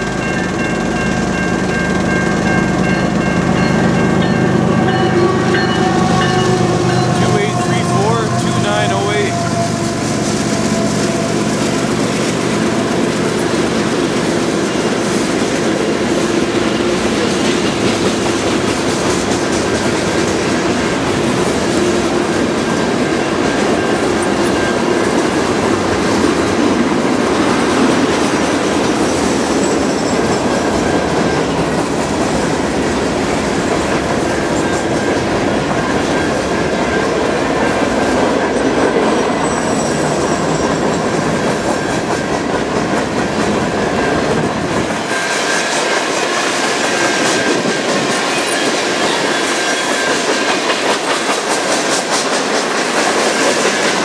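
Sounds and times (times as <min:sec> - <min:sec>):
freight cars rumbling on rails: 0:00.0 - 0:54.0.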